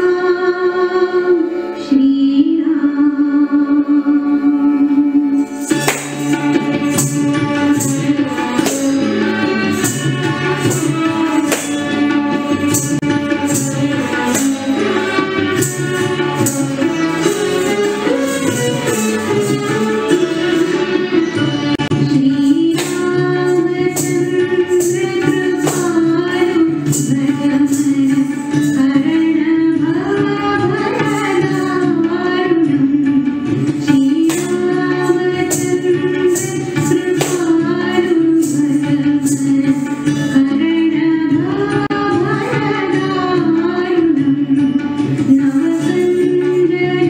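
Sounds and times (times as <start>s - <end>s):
percussion strokes: 5.2s - 47.0s.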